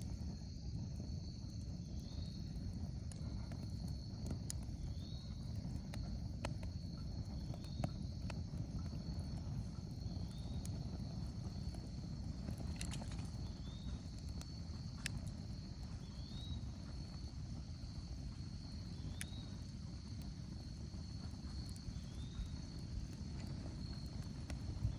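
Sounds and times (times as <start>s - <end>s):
insects droning: 0.0s - 24.9s
wood fire crackling and popping: 0.0s - 24.9s.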